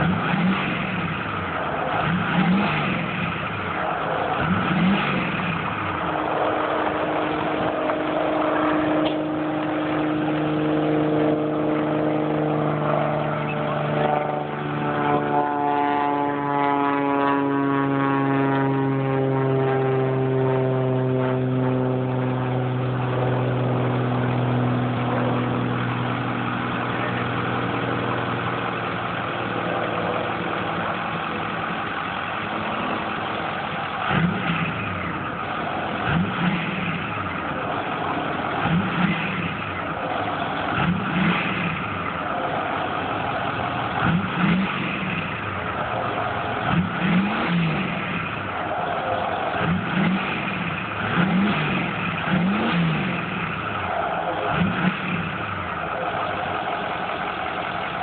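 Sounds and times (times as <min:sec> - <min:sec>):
engine throttle blips: 0:00.0 - 0:58.0
truck engine droning: 0:00.0 - 0:58.0.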